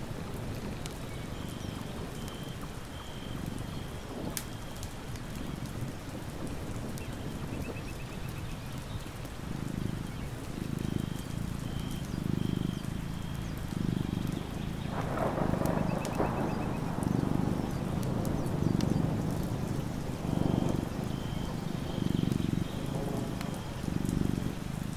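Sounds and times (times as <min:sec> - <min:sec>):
steady rain: 0:00.0 - 0:24.9
cat purring: 0:03.3 - 0:24.9.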